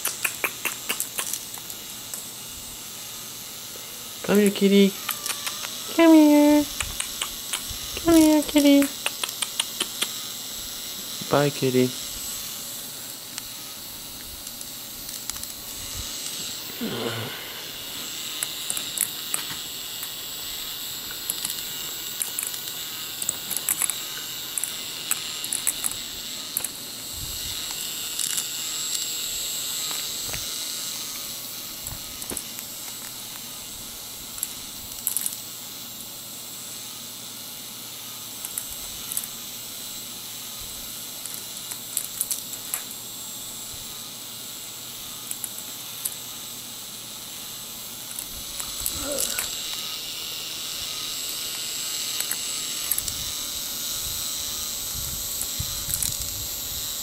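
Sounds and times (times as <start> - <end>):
motor whine: 0.0 - 57.0.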